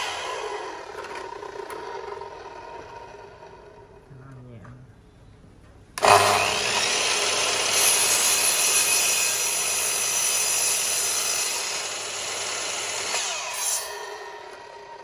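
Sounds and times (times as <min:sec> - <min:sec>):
miter saw cutting wood: 0:00.0 - 0:04.0, 0:06.0 - 0:15.0.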